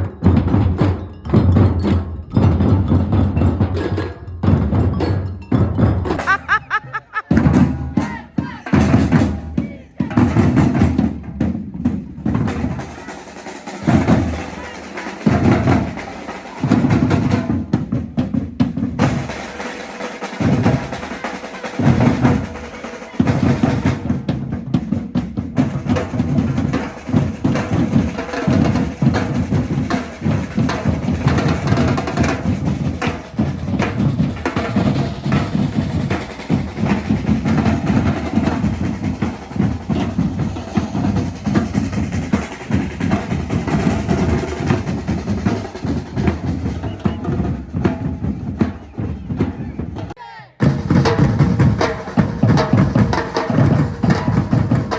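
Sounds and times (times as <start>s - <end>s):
drum ensemble playing: 0.0s - 54.9s.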